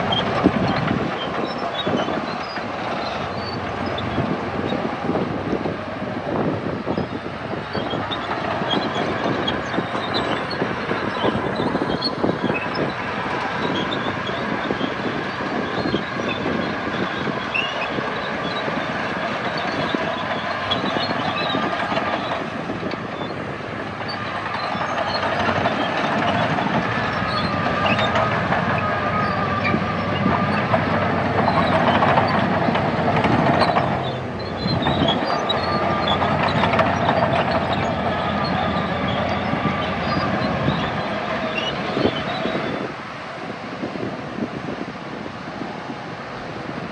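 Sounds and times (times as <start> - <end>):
steel tracks clattering: 0.0 - 46.8
bulldozer diesel engine: 0.0 - 46.9.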